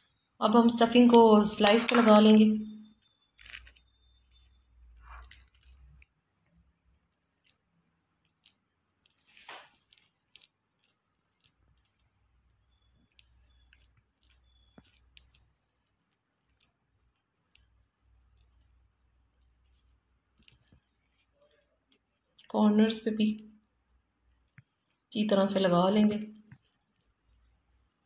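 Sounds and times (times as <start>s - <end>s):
spoon squishing through stuffing: 1.1s - 22.5s, 23.7s - 25.2s, 26.3s - 28.0s.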